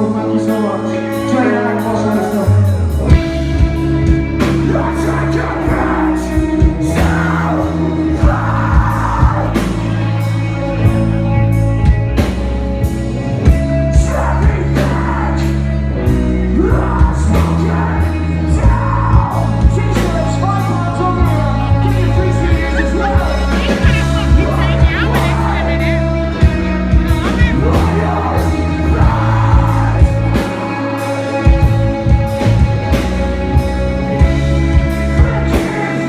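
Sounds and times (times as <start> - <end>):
rock music with singing: 0.0 - 36.0.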